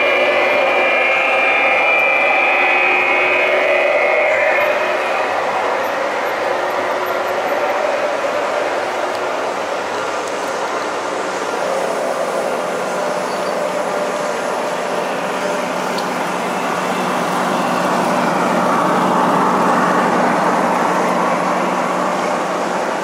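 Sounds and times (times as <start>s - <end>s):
model train rumbling on track: 0.0s - 23.0s.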